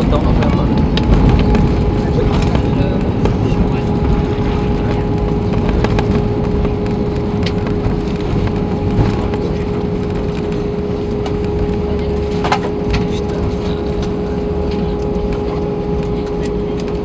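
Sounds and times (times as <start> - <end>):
aircraft cabin low rumble: 0.0 - 17.0.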